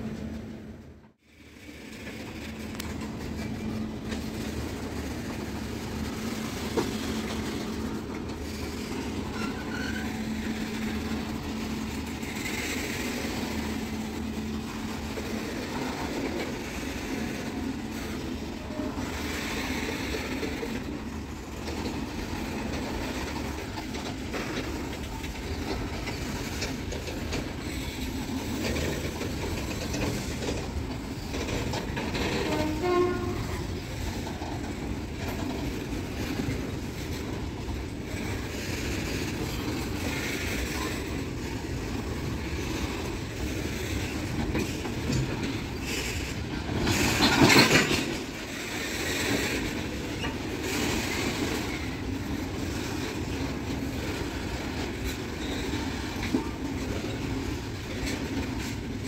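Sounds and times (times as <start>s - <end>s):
freight train wagons rumbling on rails: 0.0s - 59.0s.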